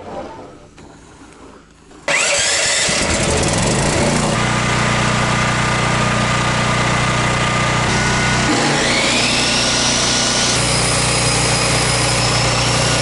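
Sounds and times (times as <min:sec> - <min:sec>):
table saw motor spinning: 0:02.1 - 0:13.0.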